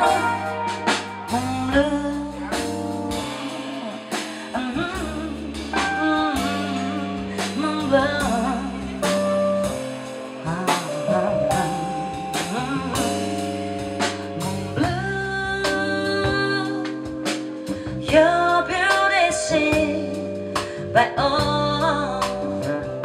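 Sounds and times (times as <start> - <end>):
drum kit with cymbal strikes: 0.0 - 23.0
electric bass: 0.0 - 23.0
electric keyboard chords: 0.0 - 23.0
woman singing: 0.0 - 23.0.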